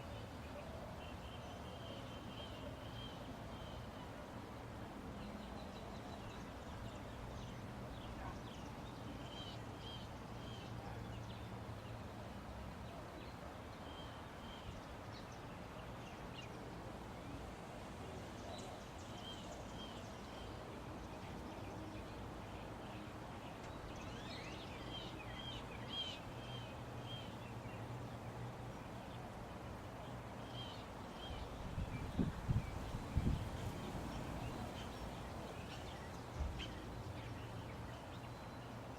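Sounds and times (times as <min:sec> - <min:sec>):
songbird chirps: 0:00.0 - 0:38.9.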